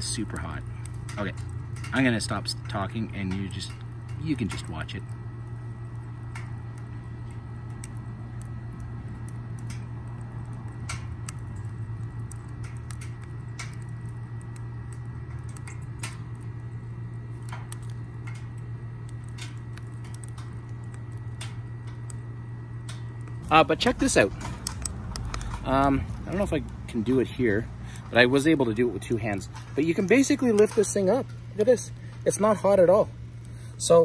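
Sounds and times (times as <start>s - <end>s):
low rumble of stove: 0.0s - 34.0s
wood fire crackling: 0.0s - 34.0s.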